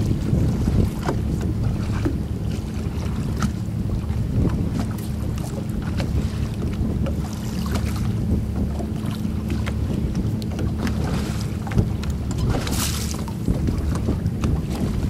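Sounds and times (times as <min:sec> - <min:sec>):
water slapping boat hull: 0:00.0 - 0:15.0
wind buffeting microphone: 0:00.0 - 0:15.0.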